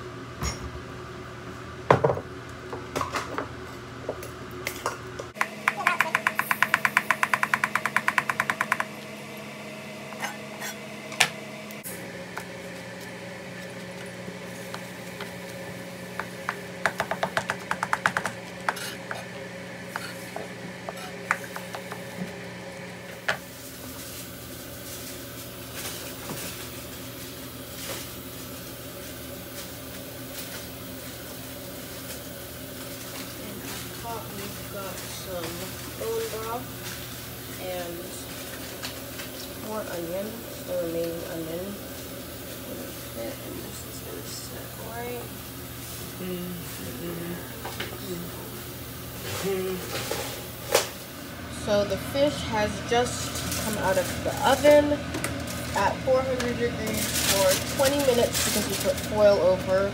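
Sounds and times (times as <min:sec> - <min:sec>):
steady low hum: 0:02.4 - 0:59.9.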